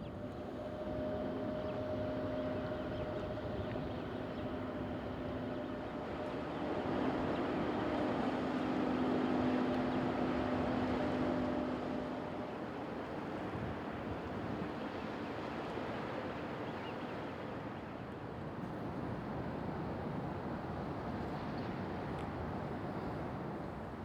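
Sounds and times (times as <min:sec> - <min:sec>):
harbour water: 0:00.0 - 0:24.0.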